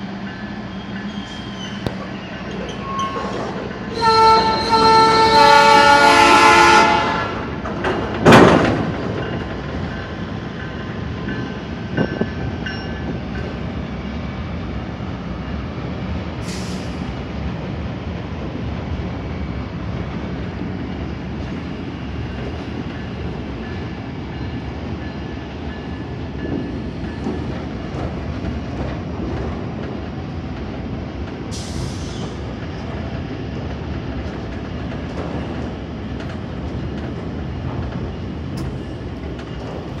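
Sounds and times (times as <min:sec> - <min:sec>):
passenger train running past: 0:00.0 - 0:40.0.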